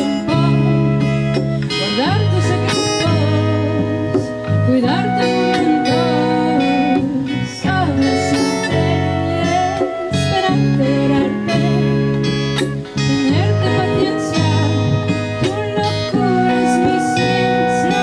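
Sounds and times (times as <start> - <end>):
acoustic guitar: 0.0 - 18.0
woman singing: 0.0 - 18.0.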